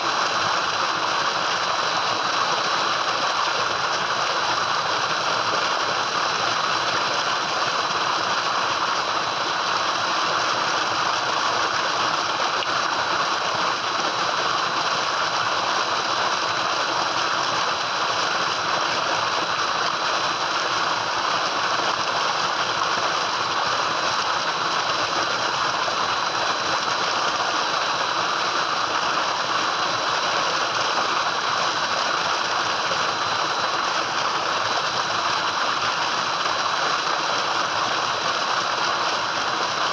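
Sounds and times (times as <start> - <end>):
water gushing into a tank: 0.0 - 39.9.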